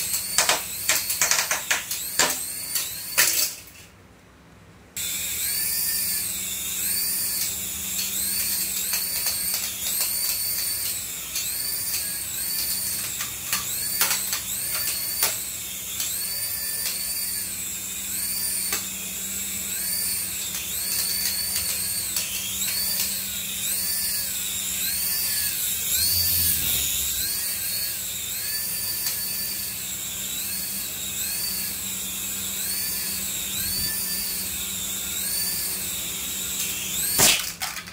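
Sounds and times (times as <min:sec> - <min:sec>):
toy helicopter whining: 0:00.0 - 0:03.8, 0:05.0 - 0:37.9.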